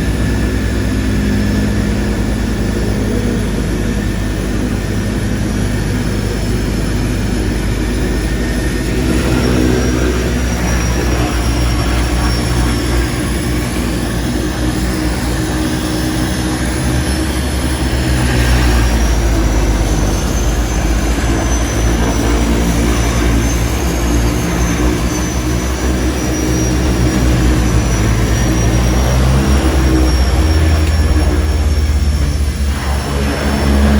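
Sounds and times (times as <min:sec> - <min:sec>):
propeller engines droning: 0:00.0 - 0:33.9.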